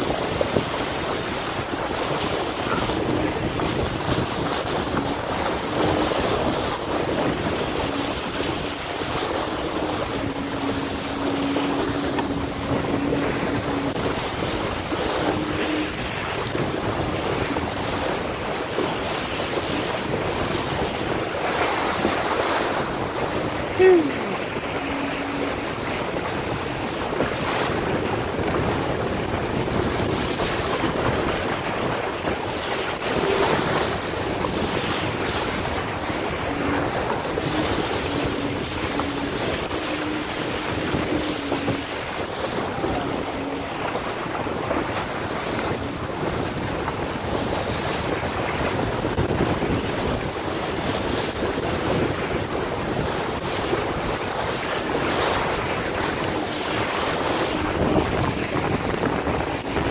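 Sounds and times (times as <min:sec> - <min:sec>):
water splashing along hull: 0:00.0 - 0:59.9
wind buffeting microphone: 0:00.0 - 0:59.9.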